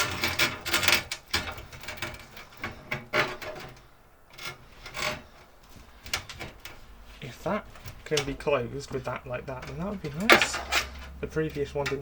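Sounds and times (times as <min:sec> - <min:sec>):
cables rubbing and scraping: 0:00.0 - 0:12.0.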